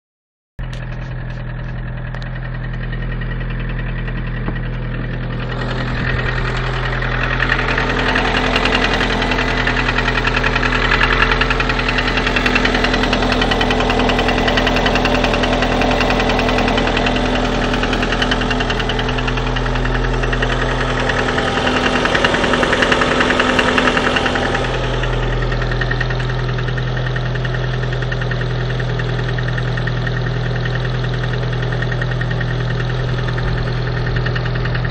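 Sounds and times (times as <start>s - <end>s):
car engine running: 0.6s - 34.9s
rapid metallic engine knock: 0.6s - 34.9s.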